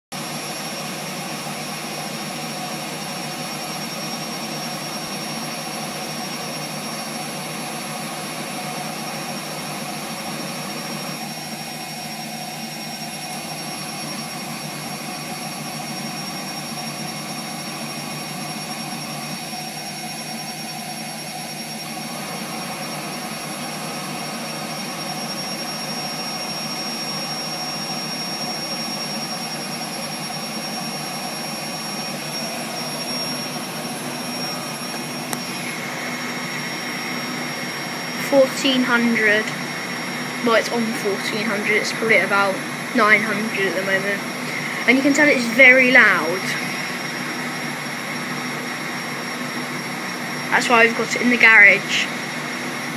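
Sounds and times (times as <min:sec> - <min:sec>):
washing machine spinning: 0:00.1 - 0:52.9.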